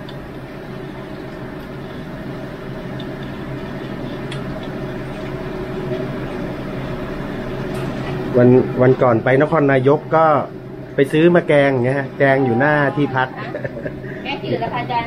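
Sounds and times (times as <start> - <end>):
water boiling in a pot: 0.0 - 15.0.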